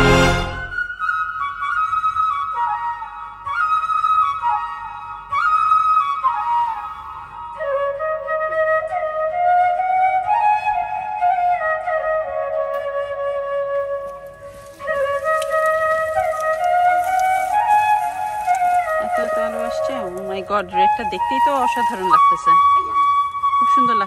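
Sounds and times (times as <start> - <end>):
slow solo melody: 4.2 - 24.0.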